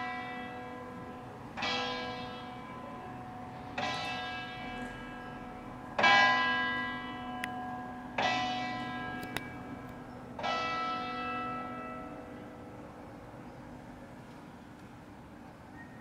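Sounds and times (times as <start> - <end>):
church bell ringing: 0.0 - 13.5.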